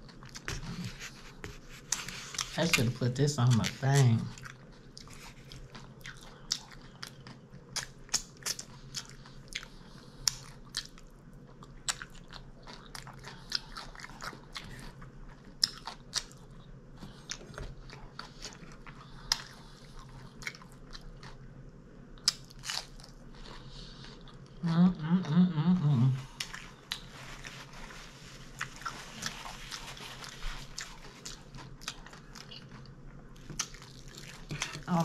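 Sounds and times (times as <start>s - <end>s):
close chewing with crunches: 0.0s - 21.6s, 22.2s - 25.4s, 26.0s - 35.0s.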